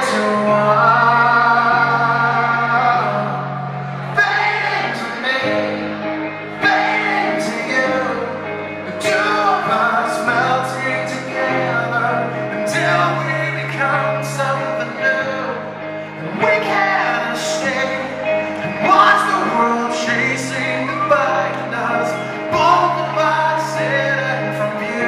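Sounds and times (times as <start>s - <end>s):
live rock band: 0.0s - 25.0s
man singing: 0.0s - 25.0s.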